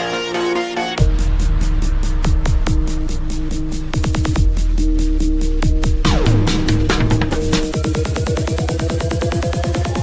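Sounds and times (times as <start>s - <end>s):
heavy electronic beat: 0.0s - 10.0s.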